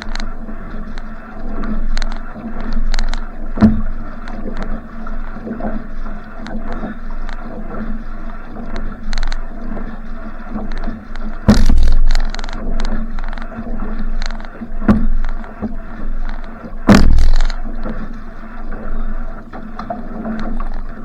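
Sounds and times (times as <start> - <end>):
paddle strokes splashing: 0.0 - 21.0
water rushing along hull: 0.0 - 21.0.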